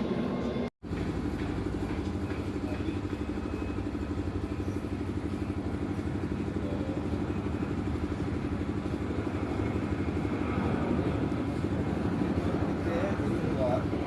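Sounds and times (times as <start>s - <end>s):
small engine idling: 0.8s - 14.0s.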